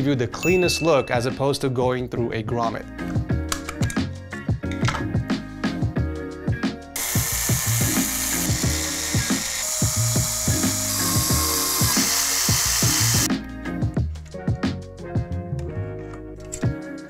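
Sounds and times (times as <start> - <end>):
music with a steady beat: 2.8 - 17.0.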